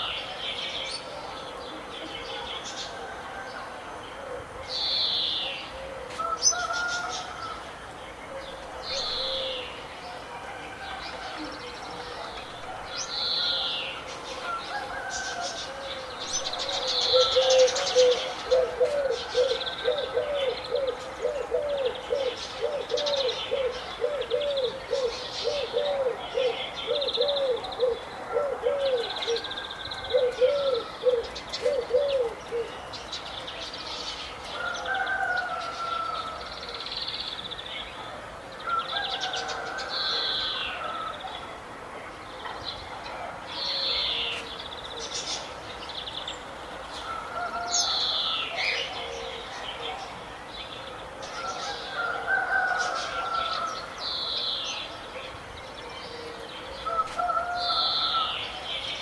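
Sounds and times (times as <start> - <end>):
birds calling and singing: 0.0 - 59.0.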